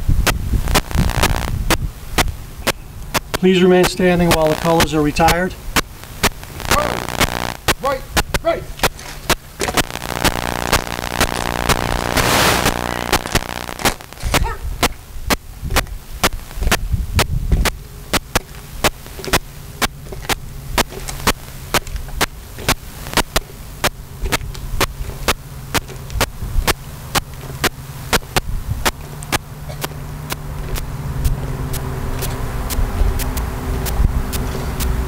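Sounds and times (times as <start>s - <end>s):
drum marching cadence: 0.0s - 35.0s
low steady hum: 0.0s - 35.0s.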